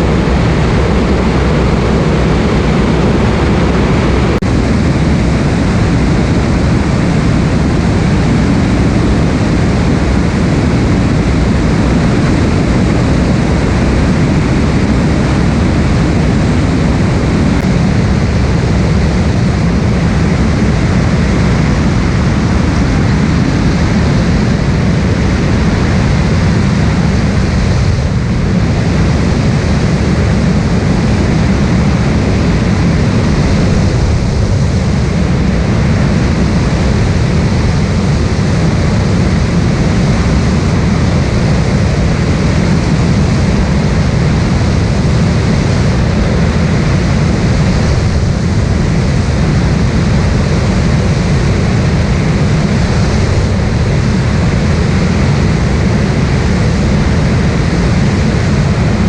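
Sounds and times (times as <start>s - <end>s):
light aircraft engine drone: 0.0s - 59.0s.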